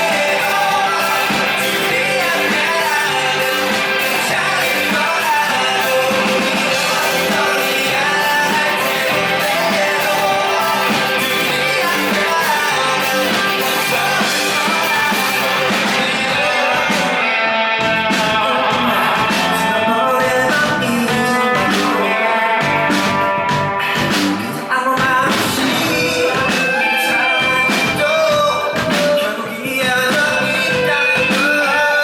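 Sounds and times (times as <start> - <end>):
person singing lead vocal: 0.0 - 32.0
rock band playing: 0.0 - 32.0.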